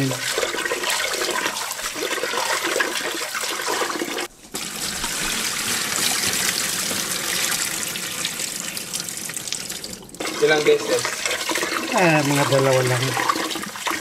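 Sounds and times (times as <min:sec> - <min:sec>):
tap water running into pot: 0:00.0 - 0:14.0
water poured into sink: 0:00.0 - 0:14.0.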